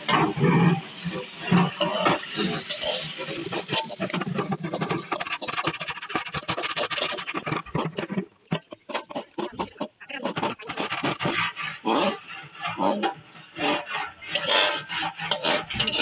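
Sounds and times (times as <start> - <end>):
shrimp sizzling in hot oil: 0.0 - 13.3
metal spatula scraping wok: 1.4 - 8.2, 8.8 - 16.0.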